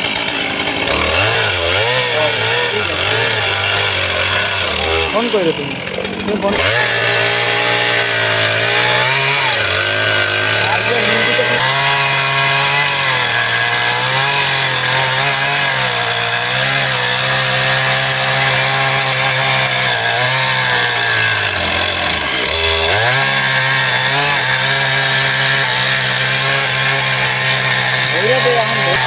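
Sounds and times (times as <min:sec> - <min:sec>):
chainsaw cutting tree trunk: 0:00.0 - 0:29.0.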